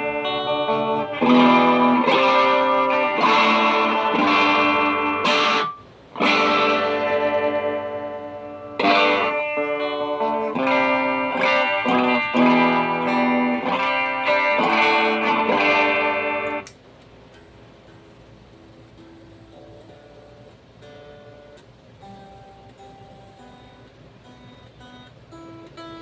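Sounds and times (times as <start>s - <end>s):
electric guitar strumming chords: 0.0s - 26.0s.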